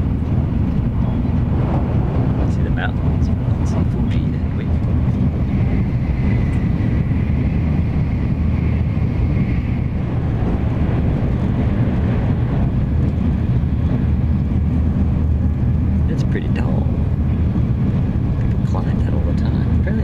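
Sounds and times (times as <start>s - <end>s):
train rumbling at speed: 0.0s - 20.0s.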